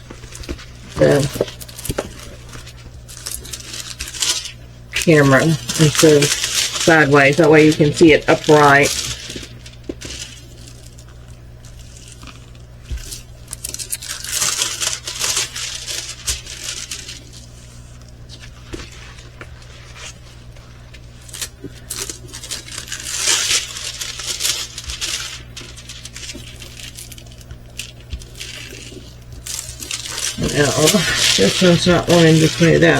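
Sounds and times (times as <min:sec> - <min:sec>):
canvas and plastic film crinkling: 0:00.0 - 0:32.9
low steady hum: 0:00.0 - 0:32.9.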